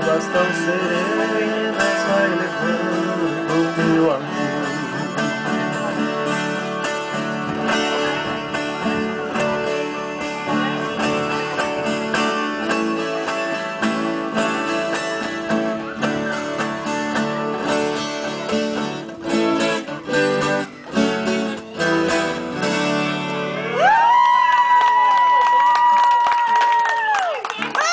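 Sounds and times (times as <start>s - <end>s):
acoustic guitars playing: 0.0s - 24.8s.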